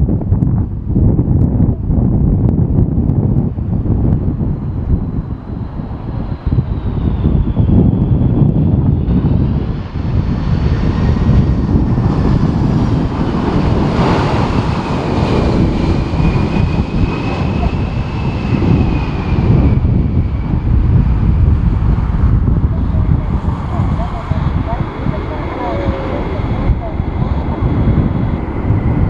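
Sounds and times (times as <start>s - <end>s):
jet airliner engines: 0.0s - 29.0s
wind buffeting microphone: 0.0s - 29.0s
faint high engine whine: 3.5s - 29.0s.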